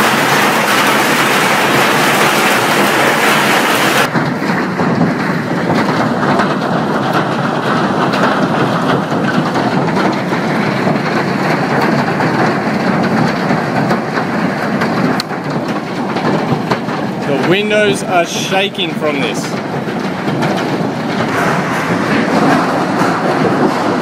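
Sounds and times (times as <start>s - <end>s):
heavy hail rattling: 0.0s - 24.0s.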